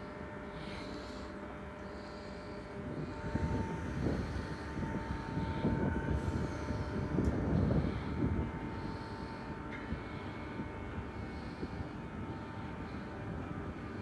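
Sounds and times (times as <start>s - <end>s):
train high whine: 0.0s - 14.0s
train rumbling: 0.0s - 14.0s.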